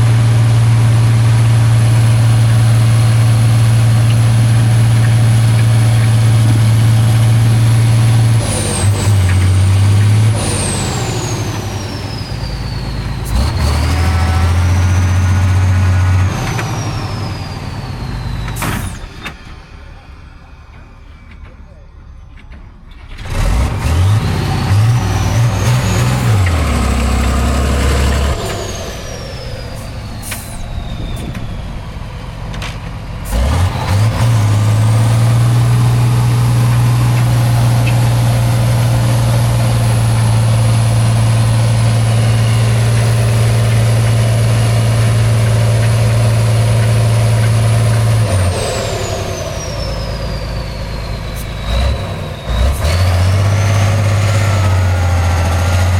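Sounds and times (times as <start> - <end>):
diesel truck engine revving: 0.0 - 55.9.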